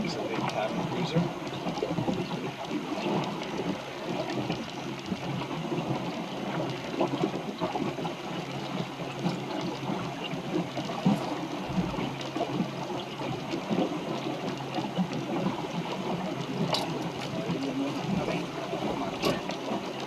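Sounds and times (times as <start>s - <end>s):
water sloshing against hull: 0.0s - 20.0s.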